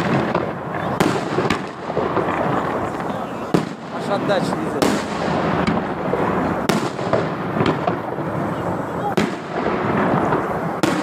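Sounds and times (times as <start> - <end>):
firework shells booming: 0.0 - 11.0
fireworks display din: 0.0 - 11.0.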